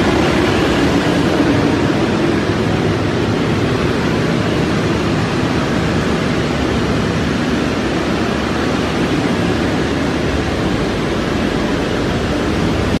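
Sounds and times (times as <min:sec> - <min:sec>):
steam boiler machinery noise: 0:00.0 - 0:13.0.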